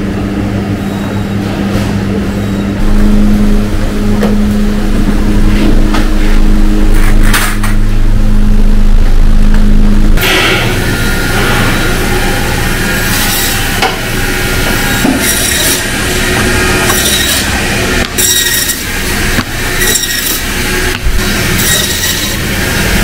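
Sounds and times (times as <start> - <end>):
band saw humming: 2.5 - 23.0.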